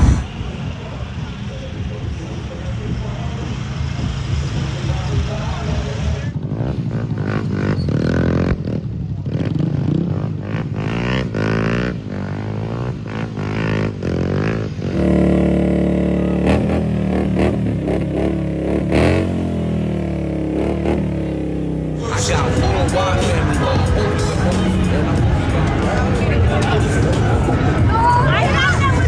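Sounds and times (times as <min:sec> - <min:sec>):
motorcycle engines revving: 0:00.0 - 0:29.0
steady droning engine: 0:00.0 - 0:29.0.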